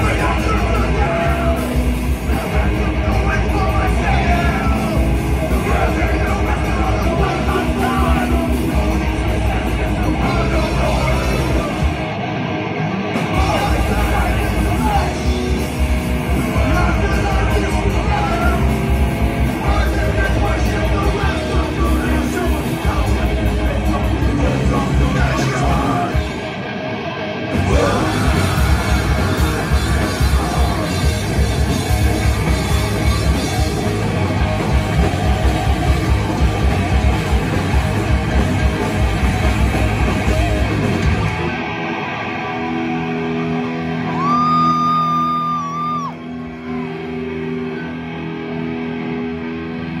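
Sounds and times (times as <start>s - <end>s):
yelled vocals: 0.0s - 46.2s
heavy metal band playing: 0.0s - 50.0s.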